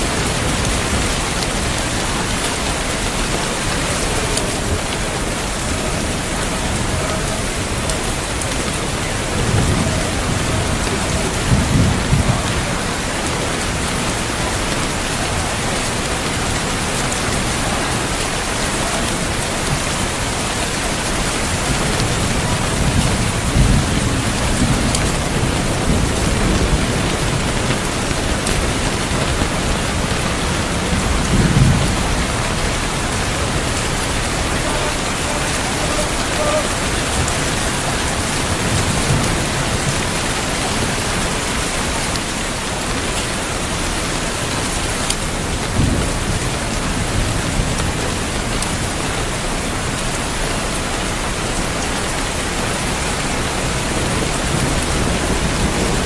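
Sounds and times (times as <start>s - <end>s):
thunder rumbling: 0.0s - 44.0s, 51.4s - 56.0s
heavy rain: 0.0s - 56.0s.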